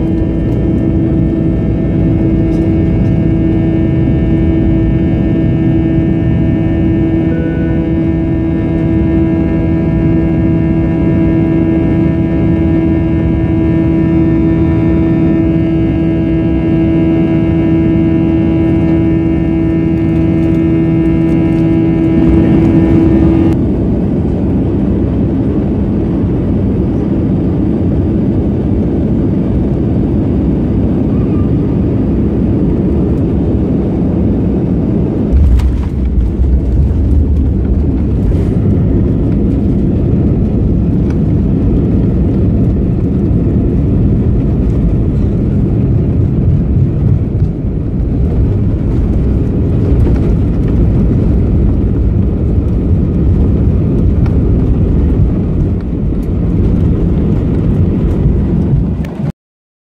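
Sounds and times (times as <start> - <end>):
engine and airflow roar: 0.0 - 59.3
landing gear rumbling on runway: 0.0 - 59.3
steady droning tone: 0.0 - 59.3.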